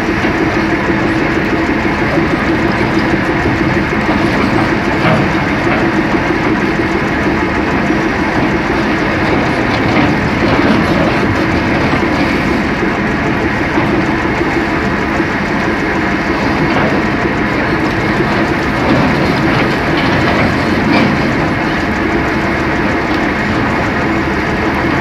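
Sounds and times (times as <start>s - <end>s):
excavator diesel engine under load: 0.0s - 25.0s.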